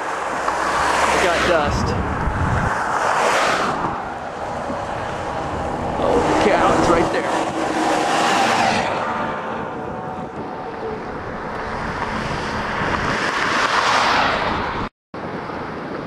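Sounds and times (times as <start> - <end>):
cars passing: 0.0 - 16.0
wind on microphone: 0.2 - 16.0.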